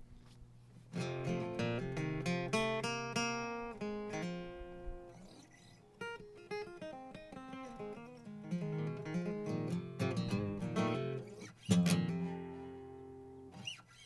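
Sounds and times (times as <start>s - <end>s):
acoustic guitar playing: 0.9s - 14.0s.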